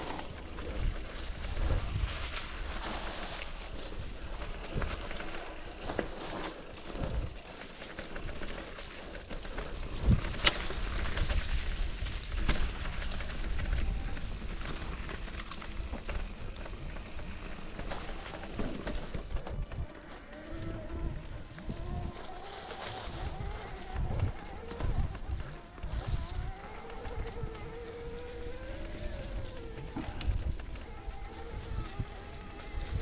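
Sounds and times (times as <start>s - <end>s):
wind on microphone: 0.0s - 7.4s, 8.0s - 33.0s
bike tyres on dirt: 0.0s - 33.0s.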